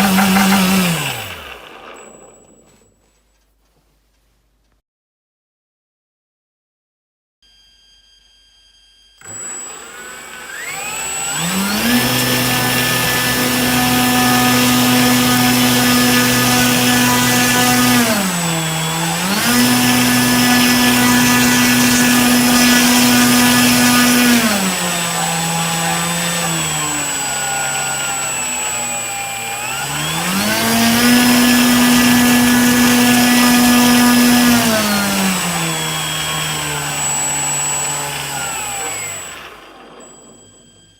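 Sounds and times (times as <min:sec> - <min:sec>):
electric motor whining: 0:00.0 - 0:02.4, 0:07.5 - 0:40.9.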